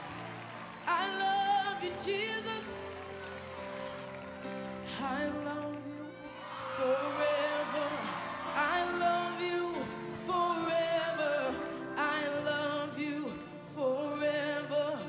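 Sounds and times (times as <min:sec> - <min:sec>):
boy singing into microphone: 0:00.9 - 0:02.9, 0:04.9 - 0:15.0.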